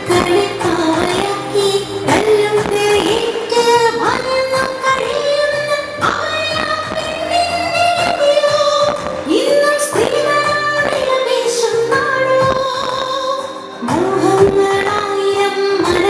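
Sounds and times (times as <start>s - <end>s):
woman singing over a beat: 0.0s - 16.0s.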